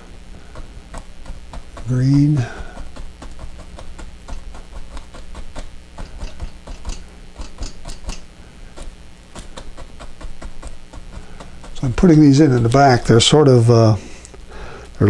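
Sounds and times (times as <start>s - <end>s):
low hum: 0.0s - 15.0s
brush tapping on canvas: 0.5s - 13.0s.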